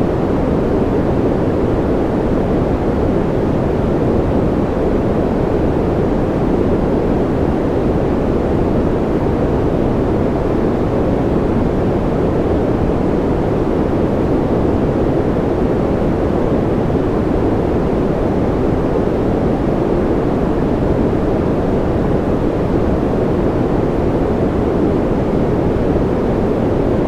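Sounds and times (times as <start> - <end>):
deep white noise hiss: 0.0 - 27.0.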